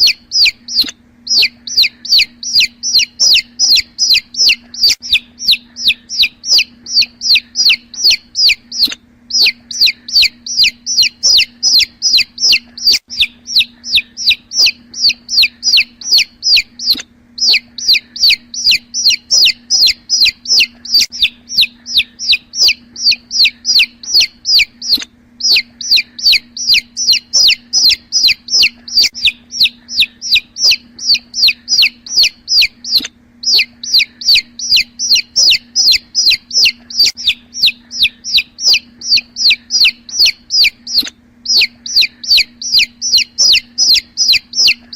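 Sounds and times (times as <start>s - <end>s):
chicks peeping: 0.0s - 44.9s
steady low hum: 0.0s - 44.9s.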